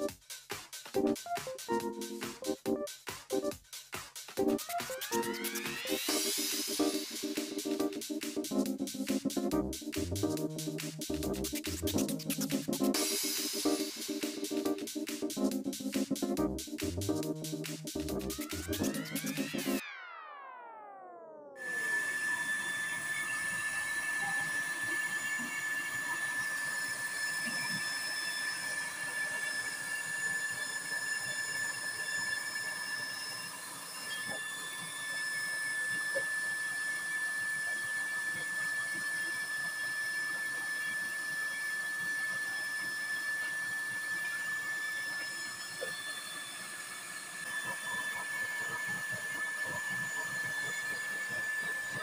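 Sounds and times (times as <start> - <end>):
blower fan whine: 4.4 - 21.0, 21.6 - 52.0.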